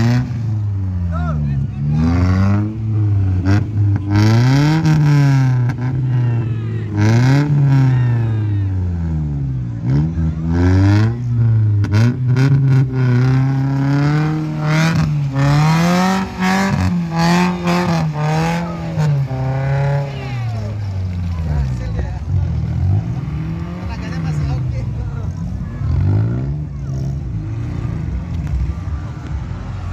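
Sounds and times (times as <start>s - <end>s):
vehicle engine revving: 0.0s - 29.9s.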